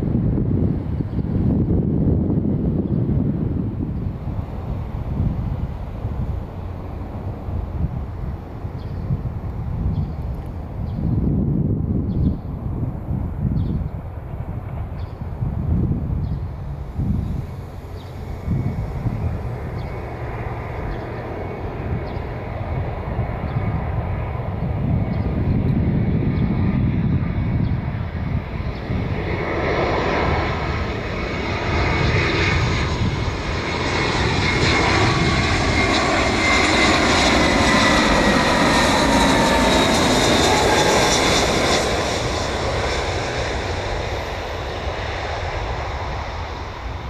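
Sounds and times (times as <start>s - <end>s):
jet airliner engines rumbling: 0.0s - 47.0s.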